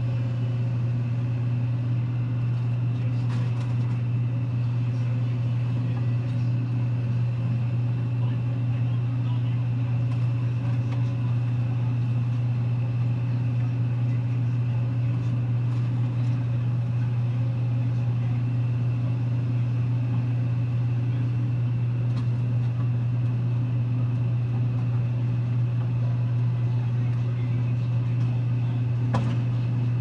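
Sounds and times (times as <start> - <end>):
excavator diesel engine drone: 0.0 - 30.0.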